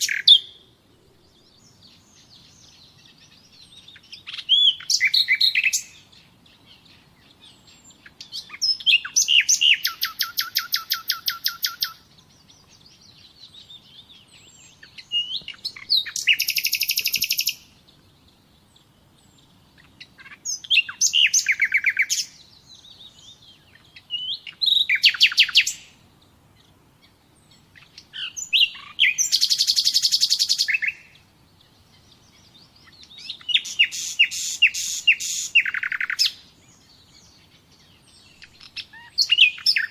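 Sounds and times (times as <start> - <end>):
soft bird twittering: 0.0 - 39.9
songbird singing trills: 0.0 - 39.9.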